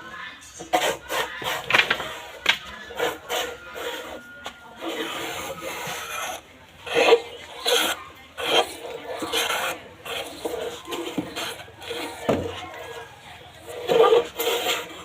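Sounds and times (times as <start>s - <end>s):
hand tool scraping wood: 0.6s - 15.0s.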